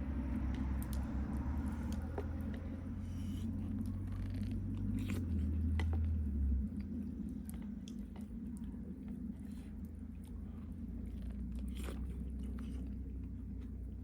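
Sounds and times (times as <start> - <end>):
person chewing food: 0.4 - 14.0.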